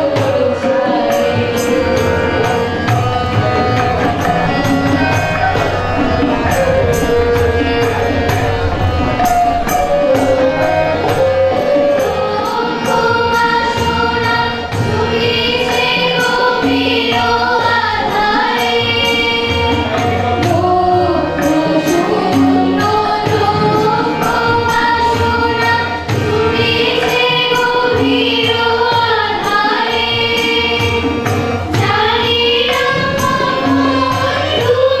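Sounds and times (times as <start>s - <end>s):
harmonium: 0.0s - 35.0s
steady percussion beat: 0.0s - 35.0s
women singing together: 0.0s - 35.0s.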